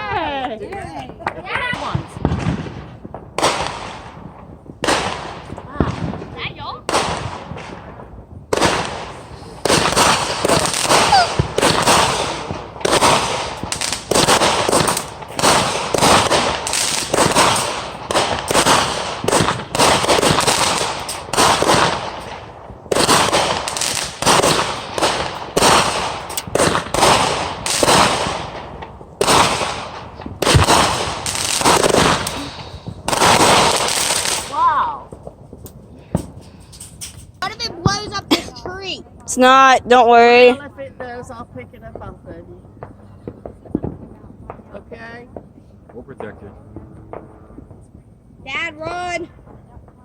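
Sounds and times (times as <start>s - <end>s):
fireworks banging: 0.0s - 50.0s.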